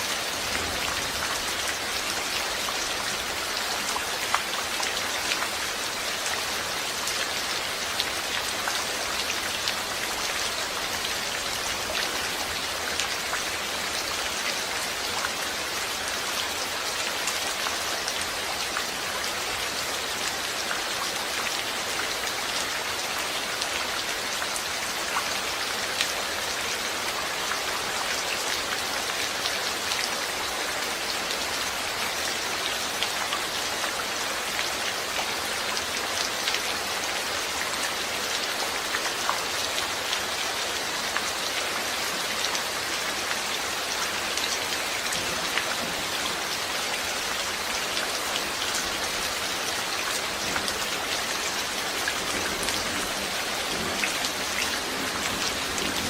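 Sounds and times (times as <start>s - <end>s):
steady rain hiss: 0.0s - 56.0s
raindrops pattering on a surface: 0.2s - 56.0s.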